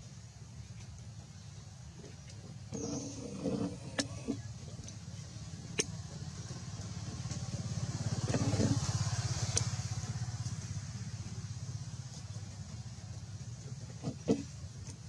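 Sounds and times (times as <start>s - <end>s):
engine pulsing rumble: 0.0s - 15.0s.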